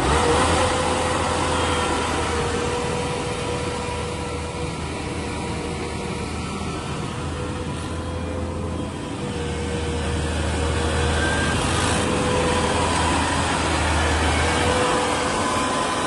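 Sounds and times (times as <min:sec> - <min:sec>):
combine harvester engine whining: 0:00.0 - 0:16.0.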